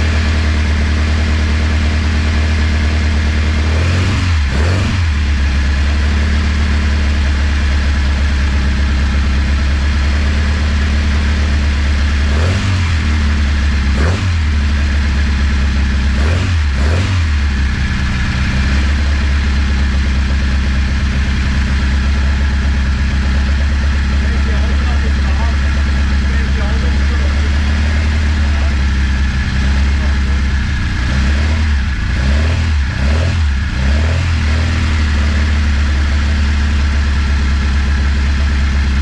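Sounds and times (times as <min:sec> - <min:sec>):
car engine idling: 0:00.0 - 0:39.0
engine revving: 0:00.0 - 0:39.0.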